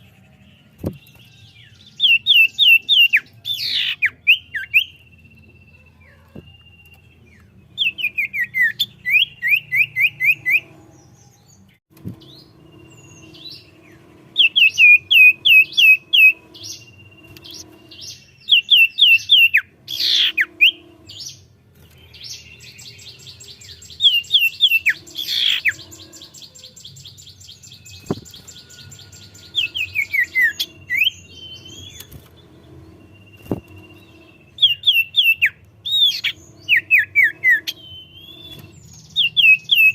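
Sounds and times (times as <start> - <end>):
bird buzzy trill: 0.0 - 39.9
bird whistling song: 0.7 - 39.9.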